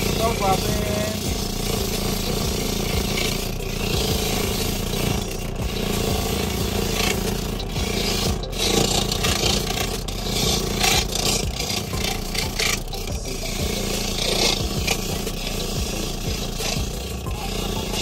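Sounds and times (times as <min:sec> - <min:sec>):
coconut grater scraping: 0:00.0 - 0:18.0.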